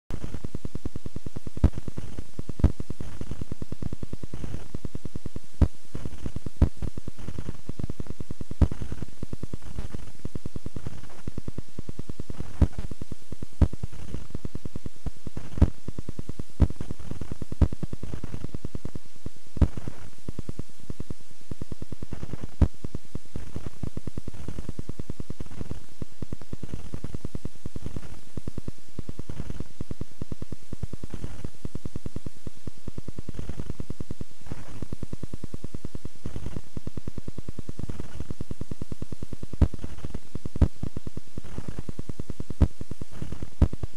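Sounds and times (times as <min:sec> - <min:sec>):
crackling static hiss: 0:00.0 - 0:43.9.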